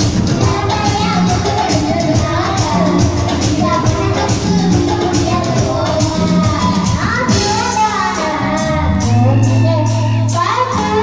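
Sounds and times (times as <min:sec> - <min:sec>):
girl singing into a microphone: 0:00.0 - 0:11.0
live band accompaniment: 0:00.0 - 0:11.0.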